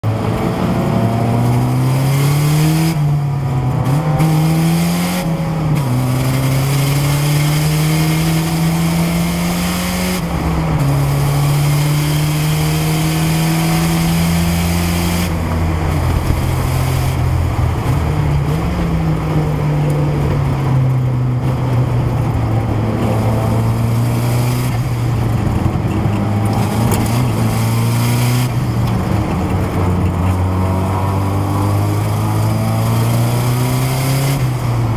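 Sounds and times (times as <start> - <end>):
race car engine running hard: 0.0 - 34.9.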